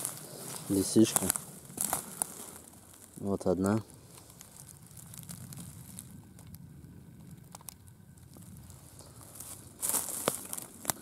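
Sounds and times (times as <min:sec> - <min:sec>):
dry leaves rustling and crunching: 0:00.0 - 0:11.0.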